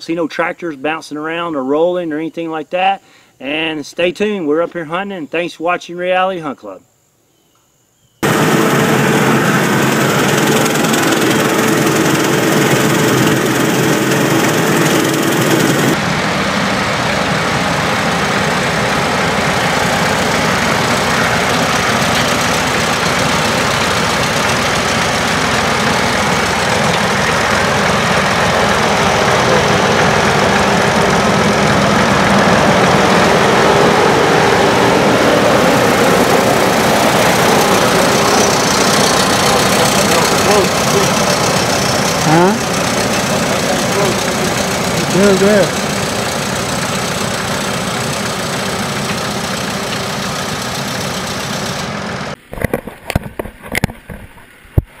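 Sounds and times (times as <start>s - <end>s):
tractor engine running: 8.2s - 54.0s.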